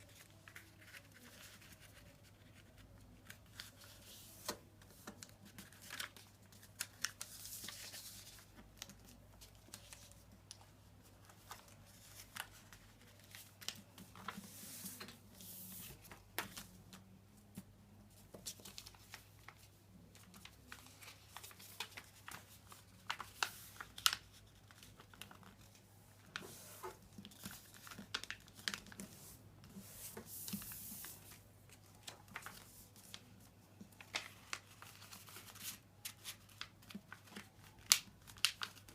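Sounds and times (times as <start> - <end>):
paper crinkling and folding: 0.0 - 17.2, 18.1 - 38.9.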